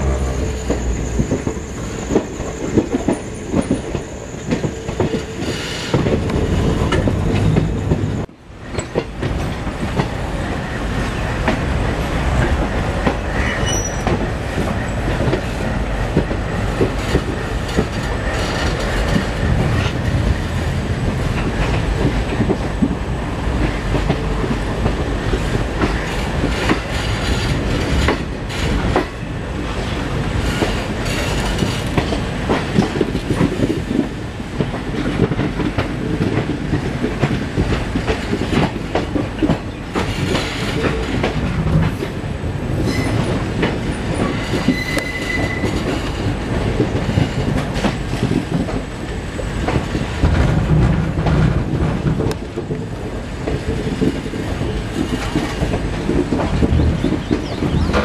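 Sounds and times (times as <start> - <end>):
train rumble: 0.0 - 58.0
train wheels clattering: 0.0 - 58.0.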